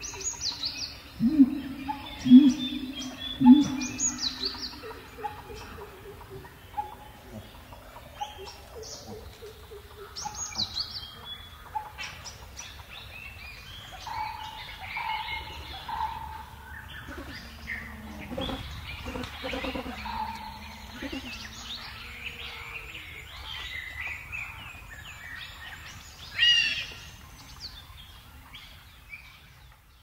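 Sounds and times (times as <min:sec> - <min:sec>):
birds chirping: 0:00.0 - 0:29.4.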